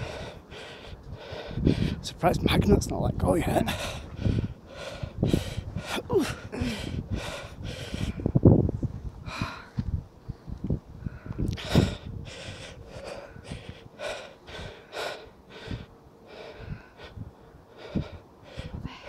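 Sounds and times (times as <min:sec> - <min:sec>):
person breathing hard and gasping: 0:00.0 - 0:02.0, 0:03.6 - 0:08.4, 0:09.2 - 0:09.8, 0:11.0 - 0:19.0.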